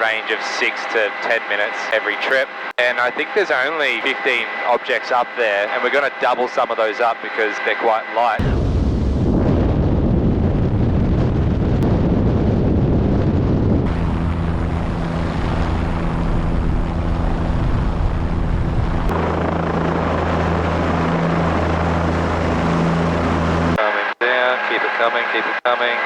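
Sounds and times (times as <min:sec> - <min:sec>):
helicopter rotor and engine drone: 0:00.0 - 0:26.0
steady hum with low tones: 0:00.0 - 0:26.0.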